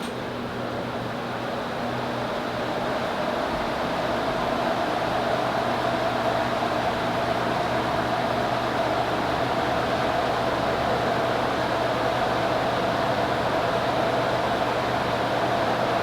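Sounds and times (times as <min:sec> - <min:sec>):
ceiling fans whirring: 0:00.0 - 0:16.0.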